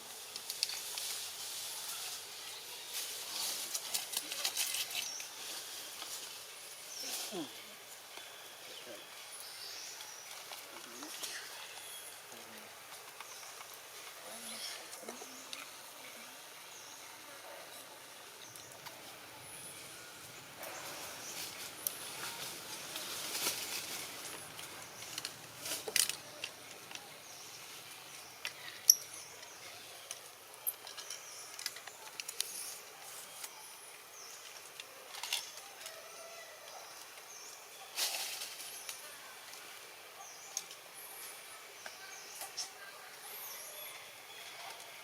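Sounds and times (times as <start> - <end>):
rustles: 0.0 - 45.0.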